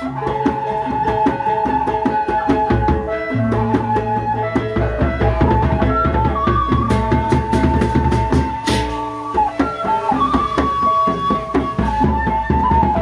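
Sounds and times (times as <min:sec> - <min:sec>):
barrel drums struck by hand: 0:00.0 - 0:13.0
flute-like melody: 0:00.0 - 0:13.0.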